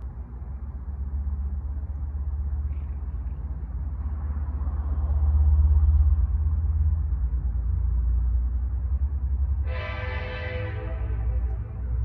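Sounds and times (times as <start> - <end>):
diesel train rumbling: 0.0 - 12.0.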